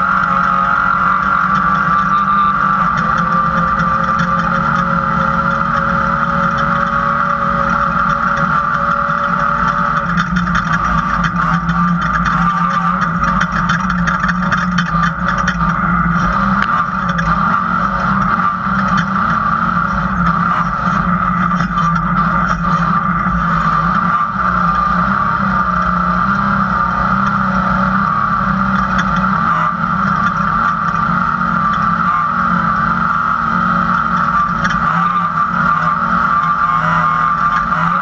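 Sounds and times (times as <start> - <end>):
engine running hard: 0.0 - 38.0
chassis rattling and knocking: 1.4 - 38.0.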